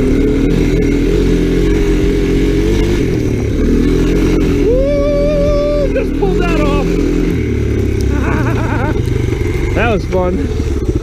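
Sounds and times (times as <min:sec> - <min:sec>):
all-terrain vehicle engine running: 0:00.0 - 0:11.0.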